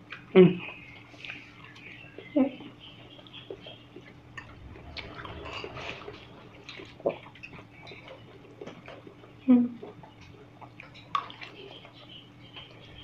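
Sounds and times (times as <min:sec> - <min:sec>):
chewing noodles: 0:00.0 - 0:13.0.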